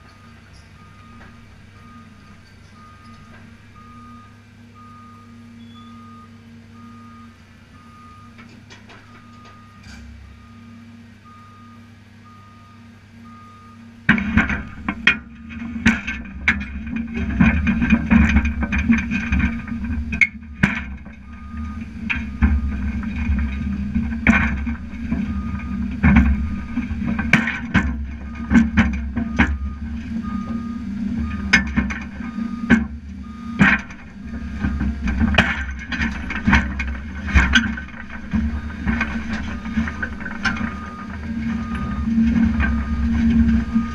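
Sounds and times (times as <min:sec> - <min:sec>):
steel tracks clanking on metal: 0:00.0 - 0:04.4, 0:07.2 - 0:11.5, 0:13.5 - 0:43.9
excavator diesel engine revving: 0:00.0 - 0:43.9
travel alarm beeping: 0:00.0 - 0:43.9.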